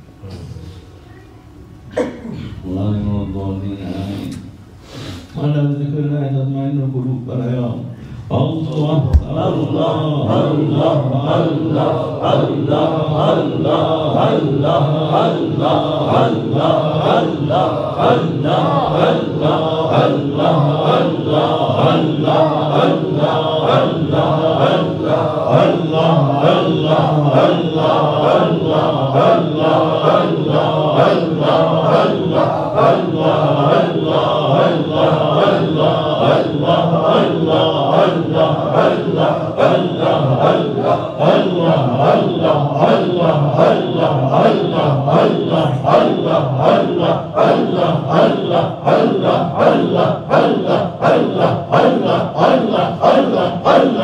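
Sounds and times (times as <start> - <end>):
men chanting in unison: 7.2 - 54.0.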